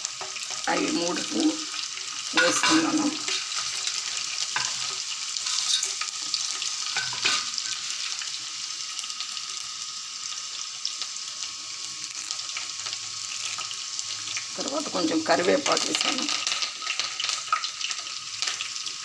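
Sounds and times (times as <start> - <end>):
hot oil sizzling with spices: 0.0 - 19.0.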